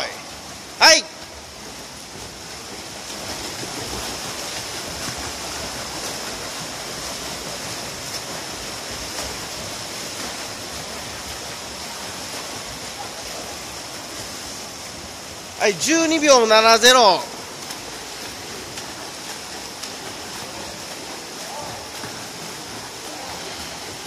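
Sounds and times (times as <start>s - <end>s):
swimmers splashing in a pool: 0.0s - 24.0s.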